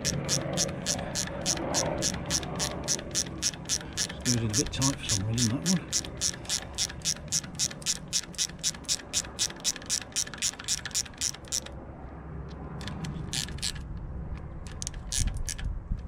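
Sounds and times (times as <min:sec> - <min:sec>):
ratchet wrench clicking: 0:00.0 - 0:11.7, 0:12.8 - 0:13.8, 0:14.7 - 0:15.7.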